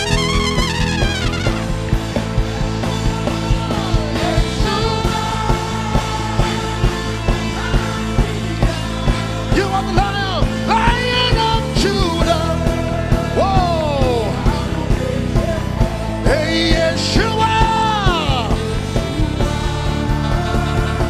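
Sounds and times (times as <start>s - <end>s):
sliding lead melody: 0.0s - 21.0s
steady drum beat: 0.0s - 21.0s
worship band music: 0.0s - 21.0s.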